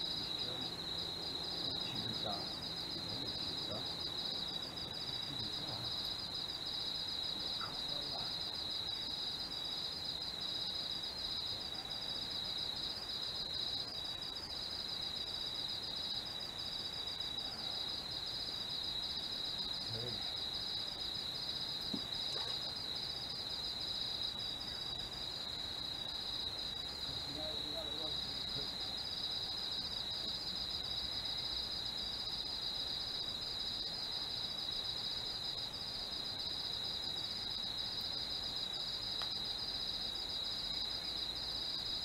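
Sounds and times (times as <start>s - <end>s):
night insects trilling: 0.0s - 42.0s.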